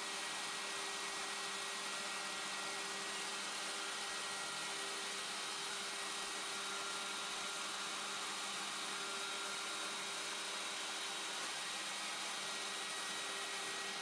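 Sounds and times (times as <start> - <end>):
router spindle whine: 0.0 - 14.0.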